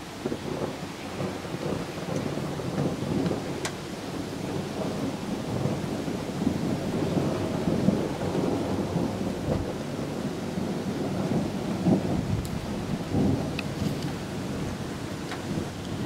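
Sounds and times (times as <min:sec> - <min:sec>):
rain: 0:00.0 - 0:16.0
thunder rumbling: 0:00.0 - 0:16.0.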